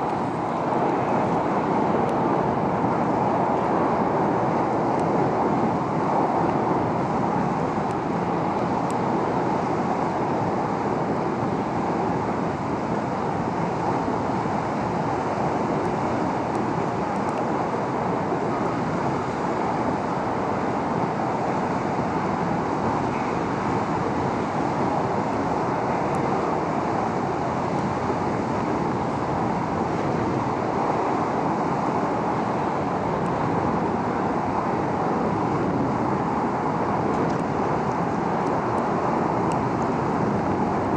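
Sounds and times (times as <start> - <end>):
water churning along hull: 0.0 - 40.9.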